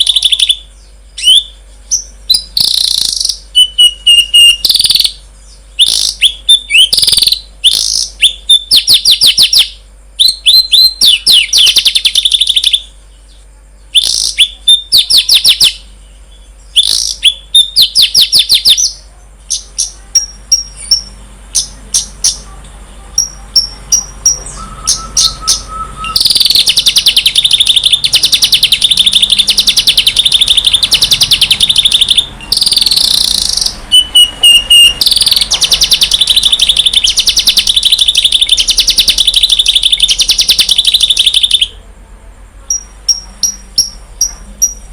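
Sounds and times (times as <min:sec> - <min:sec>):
songbird chirping and trilling: 0:00.0 - 0:44.9.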